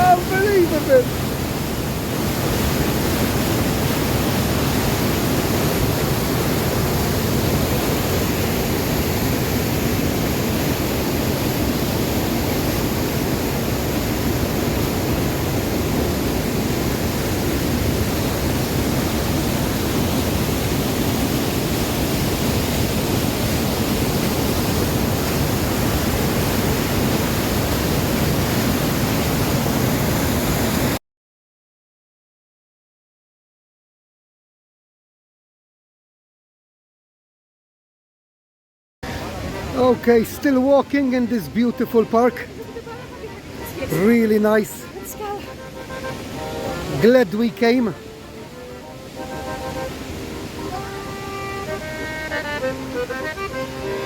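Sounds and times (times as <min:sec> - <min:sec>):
waterfall rushing: 0:00.0 - 0:31.0, 0:39.0 - 0:54.0.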